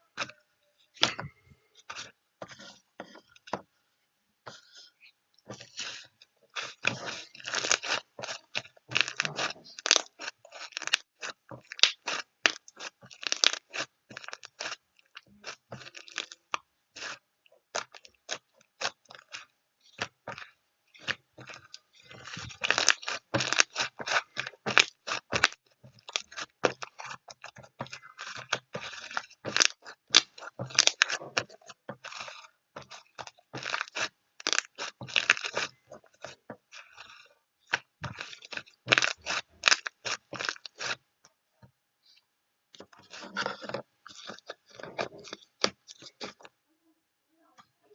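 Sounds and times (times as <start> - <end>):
crunching and crackling clicks: 4.5 - 41.4, 42.1 - 46.6.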